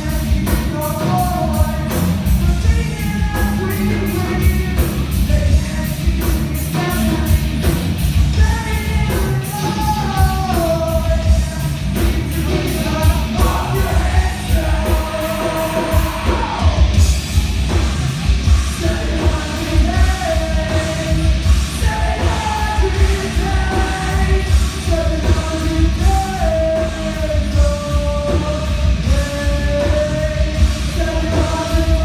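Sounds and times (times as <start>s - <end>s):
person singing: 0.0s - 16.9s, 18.7s - 32.0s
live rock band: 0.0s - 32.0s.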